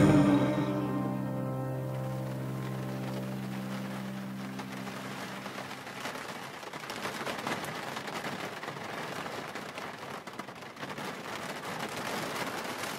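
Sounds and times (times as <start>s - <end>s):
tyre noise on wet road: 0.0s - 12.9s
rain pattering on windscreen: 0.1s - 12.9s.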